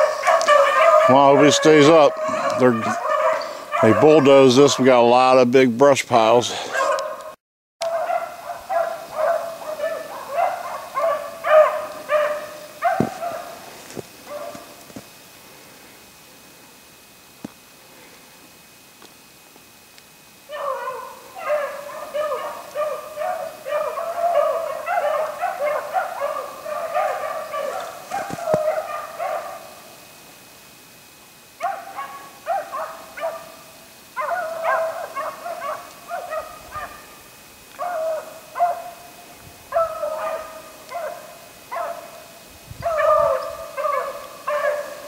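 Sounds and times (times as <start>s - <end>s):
beagles baying: 0.0s - 5.3s, 6.5s - 14.9s, 20.5s - 30.2s, 31.5s - 45.0s.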